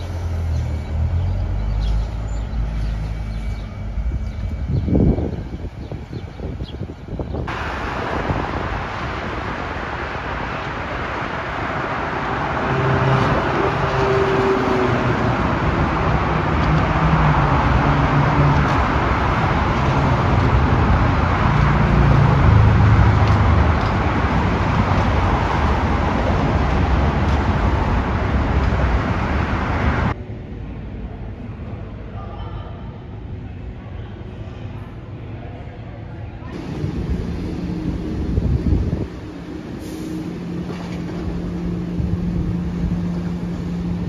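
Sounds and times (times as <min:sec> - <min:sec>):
expressway traffic: 0:00.0 - 0:44.0
train running past: 0:00.0 - 0:44.0.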